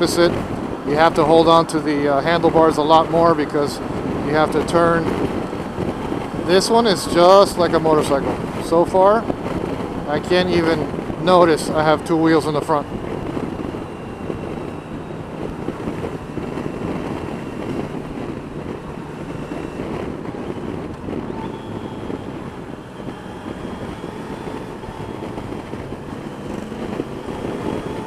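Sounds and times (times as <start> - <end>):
motorcycle engine running: 0.0 - 28.0
wind rush over microphone: 0.0 - 28.0.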